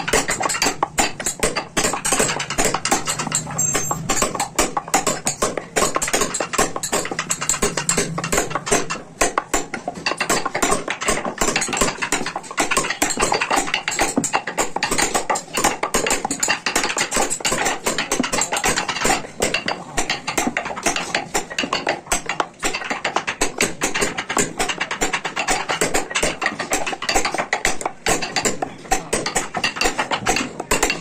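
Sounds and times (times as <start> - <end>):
hammer tapping chisel: 0.0 - 31.0.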